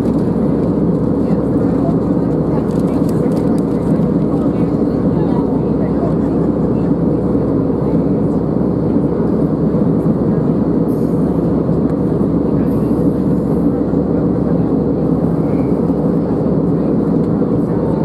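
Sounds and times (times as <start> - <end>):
airliner cabin engine drone: 0.0 - 18.0.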